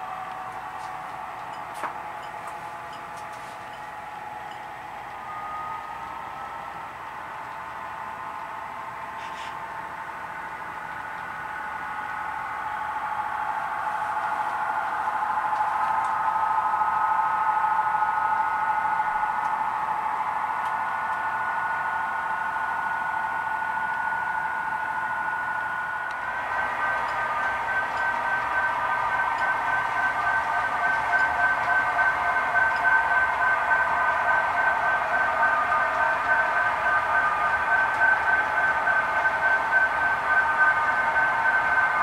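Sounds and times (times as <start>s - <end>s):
model train mechanical whine: 0.0s - 42.0s.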